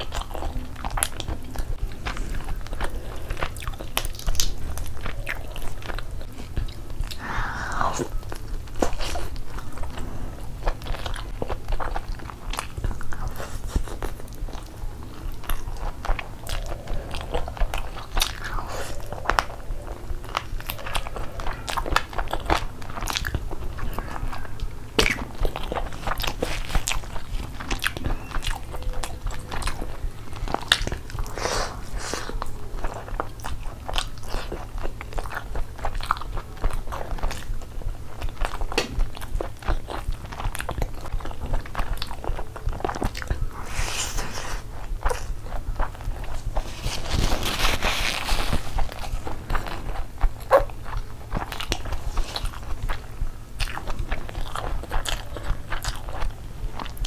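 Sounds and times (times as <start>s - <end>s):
chewing and biting food: 0.0s - 57.0s
steady low hum: 0.0s - 57.0s.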